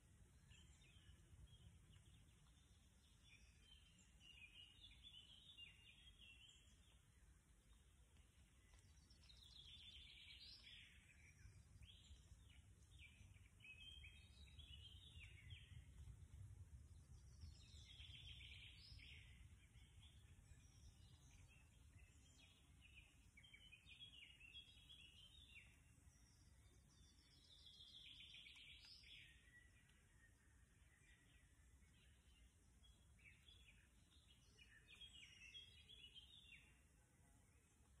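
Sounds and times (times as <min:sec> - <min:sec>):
quiet low rumble: 0:00.0 - 0:38.0
songbirds singing: 0:00.0 - 0:38.0.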